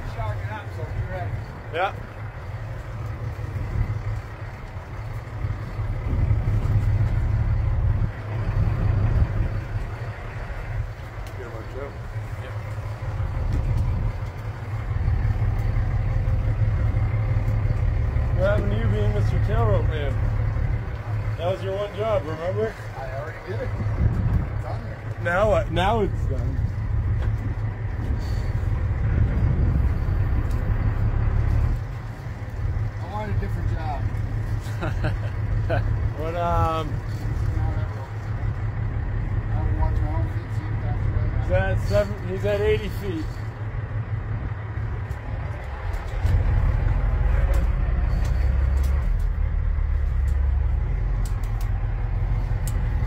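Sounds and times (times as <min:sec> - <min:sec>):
boat engine rumbling: 0:00.0 - 0:53.0
water noise: 0:00.0 - 0:53.0
wind: 0:00.0 - 0:53.0.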